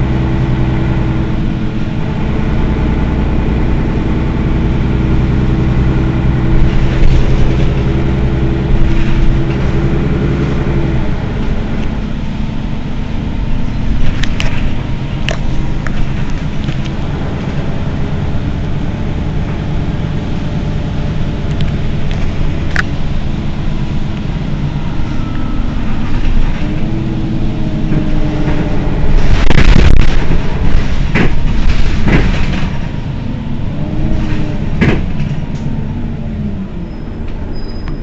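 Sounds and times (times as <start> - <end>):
bus engine idling: 0.0 - 38.0
rush of noise: 0.0 - 38.0.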